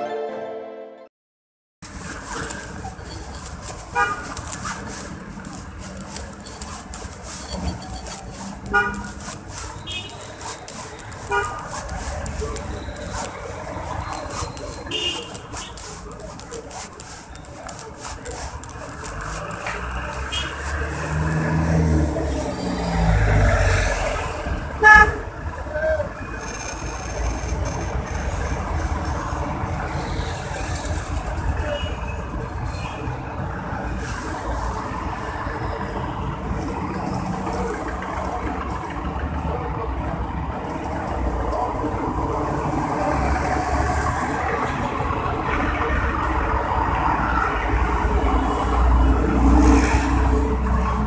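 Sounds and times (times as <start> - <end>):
street traffic rumble: 1.8 - 51.0.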